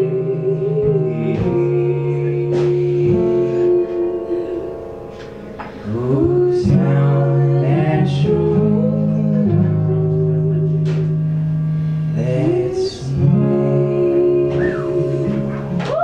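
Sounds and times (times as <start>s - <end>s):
woman singing: 0.0s - 4.9s, 5.9s - 11.0s, 12.2s - 16.0s
man singing harmony: 0.0s - 5.0s, 5.7s - 11.2s, 12.1s - 15.8s
strummed acoustic guitar: 0.0s - 16.0s.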